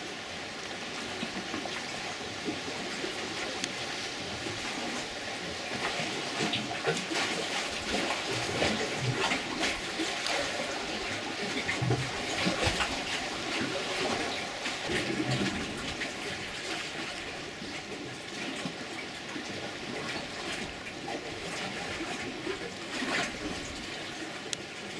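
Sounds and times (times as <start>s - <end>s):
water splashing: 0.8s - 24.9s.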